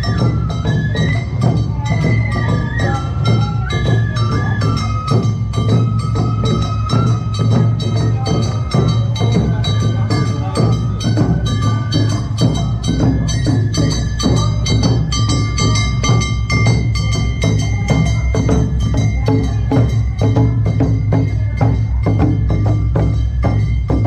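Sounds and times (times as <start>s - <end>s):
bamboo flute melody: 0.0s - 24.0s
drums: 0.0s - 24.0s.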